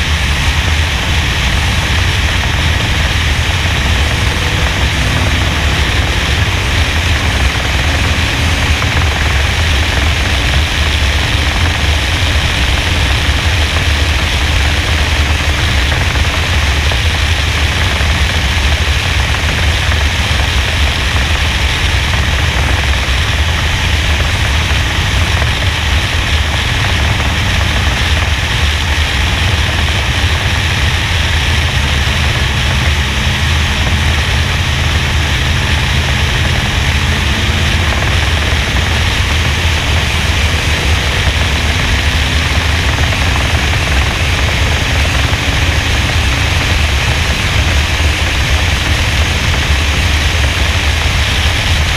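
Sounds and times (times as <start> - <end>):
race car engine roaring: 0.0 - 51.9
wind rushing: 0.0 - 51.9.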